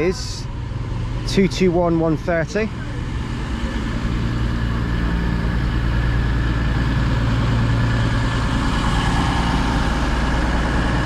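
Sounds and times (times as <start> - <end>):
train diesel engines idling: 0.0 - 11.0.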